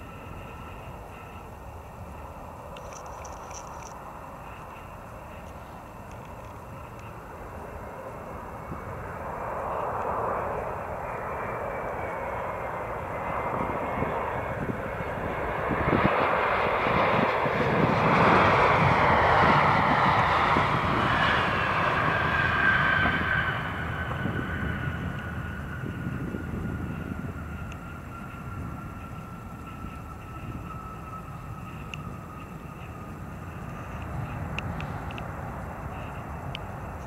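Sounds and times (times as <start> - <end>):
jet engine whine: 0.0 - 37.0
jet engines roaring: 0.0 - 37.0.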